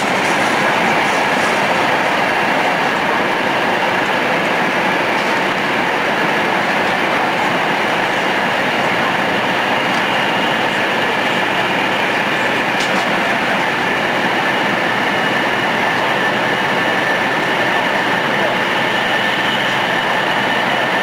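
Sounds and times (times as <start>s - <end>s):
high-speed train rushing: 0.0s - 21.0s.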